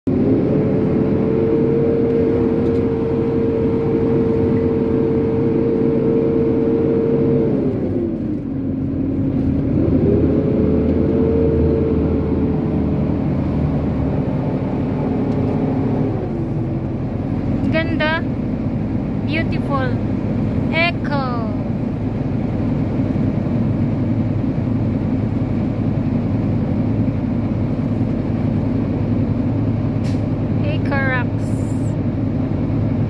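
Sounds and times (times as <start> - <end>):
truck engine and road noise: 0.0 - 33.0
droning whine: 0.1 - 33.0.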